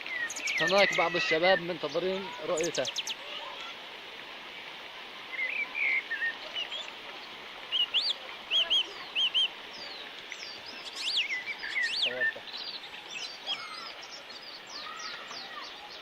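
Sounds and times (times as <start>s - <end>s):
small birds chirping: 0.0s - 3.7s, 4.5s - 16.0s
rushing floodwater: 0.0s - 16.0s.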